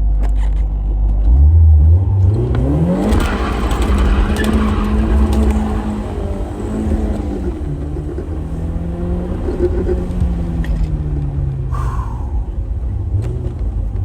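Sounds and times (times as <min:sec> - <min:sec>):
tire noise: 0:00.0 - 0:14.0
car engine revving: 0:01.1 - 0:14.0.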